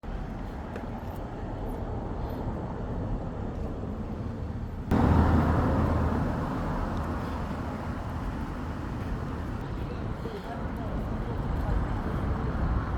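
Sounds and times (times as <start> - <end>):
passing vehicles rumble: 0.0 - 12.9.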